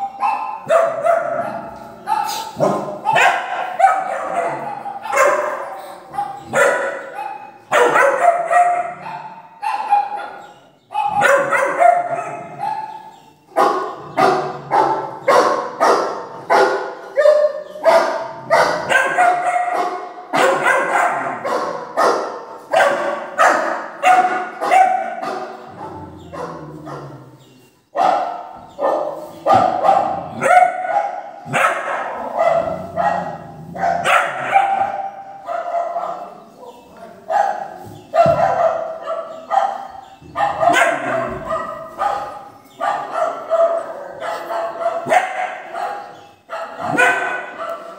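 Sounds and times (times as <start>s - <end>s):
recorded dog barking: 0.0s - 47.9s.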